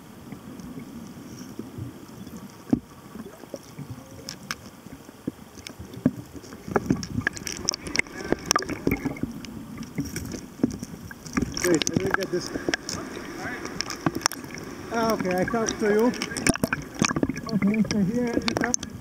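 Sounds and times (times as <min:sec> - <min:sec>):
muffled underwater rumbling: 0:00.0 - 0:19.0.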